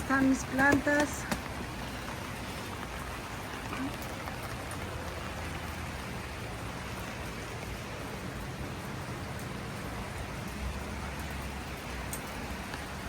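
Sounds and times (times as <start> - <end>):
rain on leaves and ground: 0.0 - 13.0.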